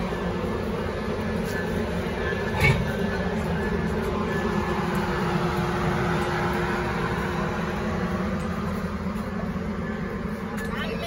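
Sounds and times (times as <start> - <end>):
train hum: 0.0 - 11.0
train mechanical rumble: 0.0 - 11.0.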